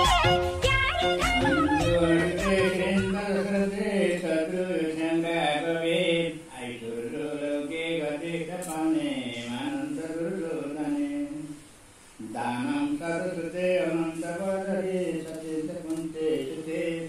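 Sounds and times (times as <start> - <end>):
man chanting: 1.5 - 11.6, 12.2 - 17.0.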